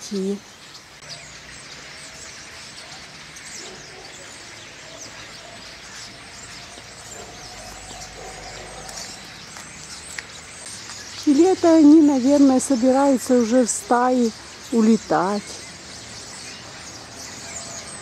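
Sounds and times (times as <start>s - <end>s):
flock of starlings chattering: 0.0s - 18.0s.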